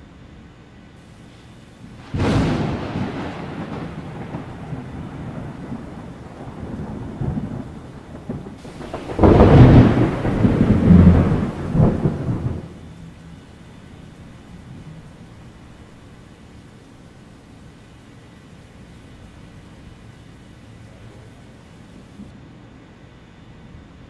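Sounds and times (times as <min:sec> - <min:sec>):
thunder rumbling: 0:01.0 - 0:22.3.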